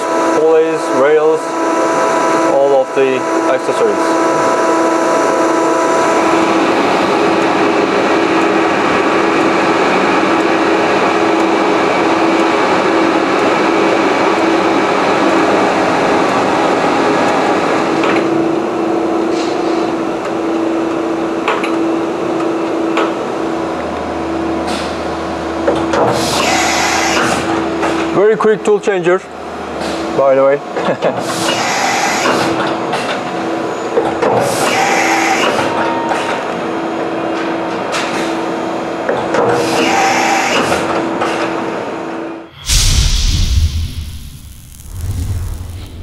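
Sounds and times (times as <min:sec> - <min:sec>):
drilling machine whir and hum: 0:00.0 - 0:42.0.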